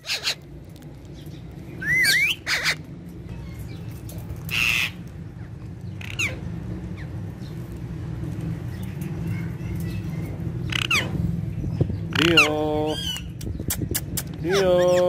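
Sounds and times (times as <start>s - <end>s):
parakeets calling: 0.0s - 7.9s, 8.5s - 15.0s
steady low hum: 0.0s - 15.0s.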